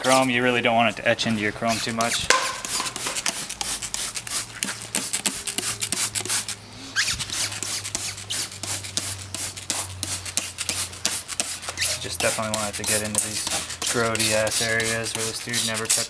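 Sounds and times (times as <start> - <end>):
rapid rasping strokes: 1.2 - 16.0.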